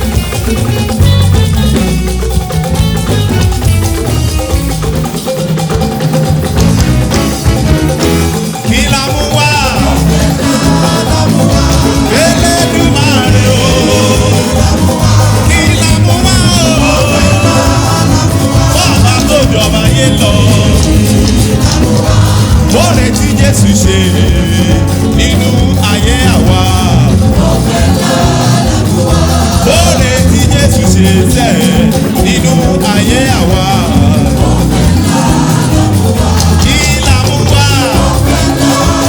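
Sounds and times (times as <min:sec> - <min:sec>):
church band gospel music: 0:00.0 - 0:39.0.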